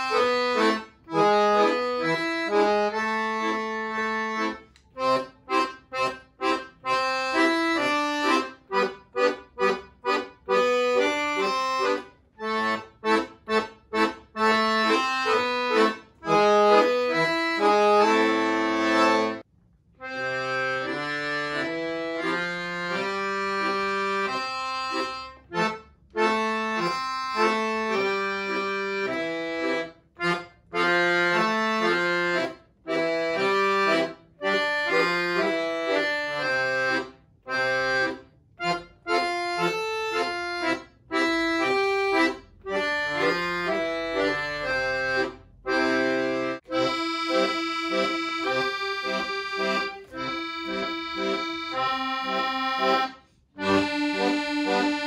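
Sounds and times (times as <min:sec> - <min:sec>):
piano accordion playing: 0:00.0 - 0:55.0.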